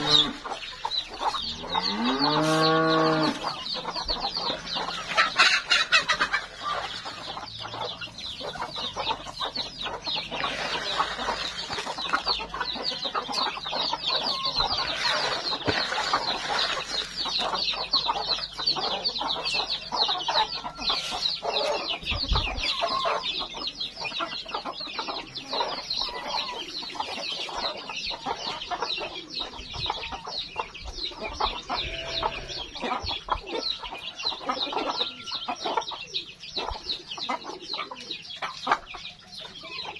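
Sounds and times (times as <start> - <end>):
chicks peeping: 0.0 - 39.9
hens clucking: 0.0 - 39.9.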